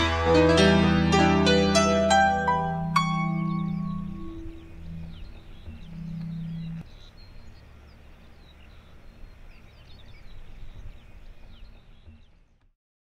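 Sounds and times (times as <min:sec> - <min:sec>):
low outdoor rumble: 0:00.0 - 0:12.6
small birds chirping: 0:01.7 - 0:12.8.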